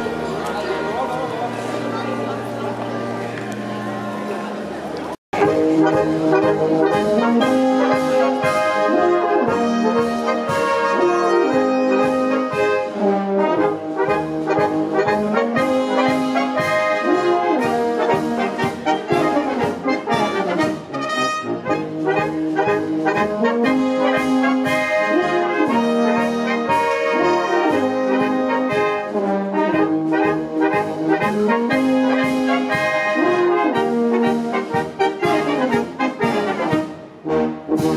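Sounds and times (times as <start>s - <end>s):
brass band playing: 0.0s - 4.6s, 5.3s - 37.9s.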